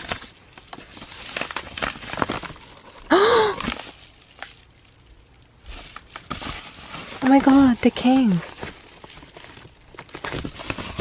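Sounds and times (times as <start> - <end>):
packaging rustling and clicking: 0.0 - 11.0.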